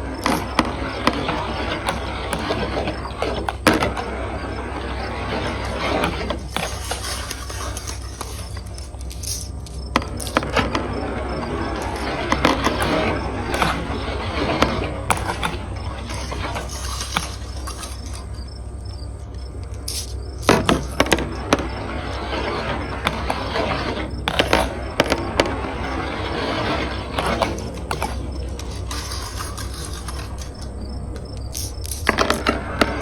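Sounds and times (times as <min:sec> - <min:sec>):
marbles rolling and clacking on track: 0:00.0 - 0:18.7, 0:19.6 - 0:33.0.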